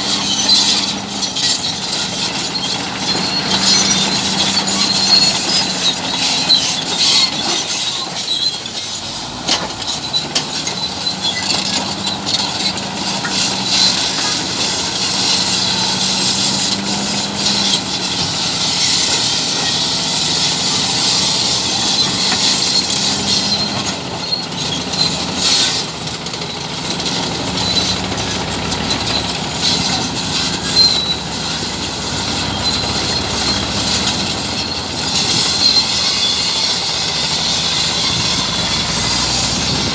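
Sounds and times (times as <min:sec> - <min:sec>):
bulldozer engine humming: 0:00.0 - 0:39.9
crawler tracks clanking and squealing: 0:00.0 - 0:39.9.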